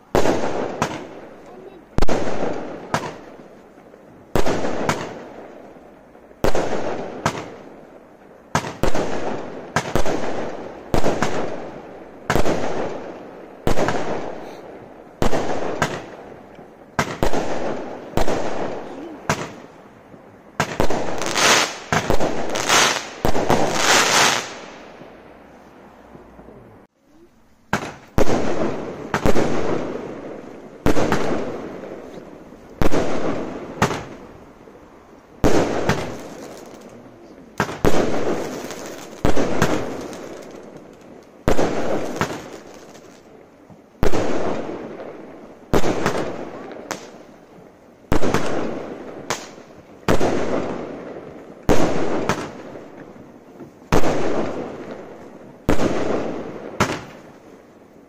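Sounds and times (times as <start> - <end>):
firework bangs: 0.0 - 25.5, 27.7 - 57.5
firework crackling: 0.0 - 58.0.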